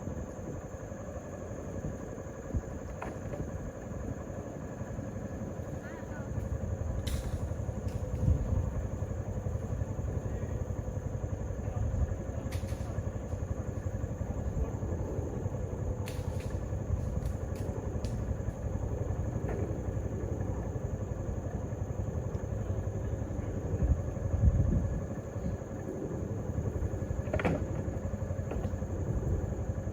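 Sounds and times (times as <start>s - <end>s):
vehicle engine rumbling: 0.0s - 29.9s.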